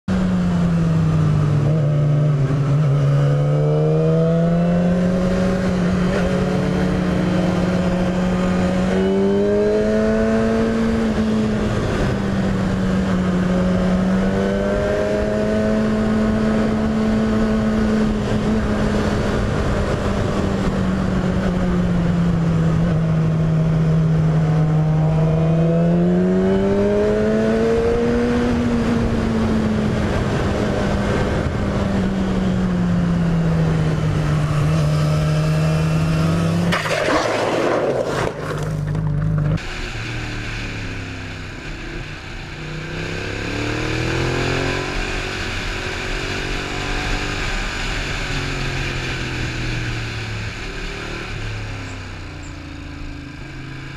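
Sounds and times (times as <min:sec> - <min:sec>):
motorcycle engine revving: 0:00.1 - 0:53.9.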